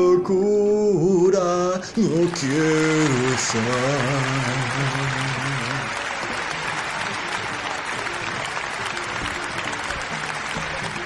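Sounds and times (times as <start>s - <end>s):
audience applause: 1.9s - 11.0s
soft instrumental music: 2.1s - 11.0s.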